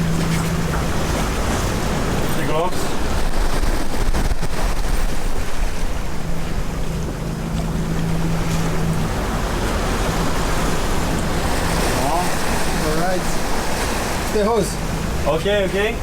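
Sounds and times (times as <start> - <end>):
steady low hum: 0.0 - 16.0
wind and sea rushing: 0.0 - 16.0
wind buffeting microphone: 0.0 - 16.0.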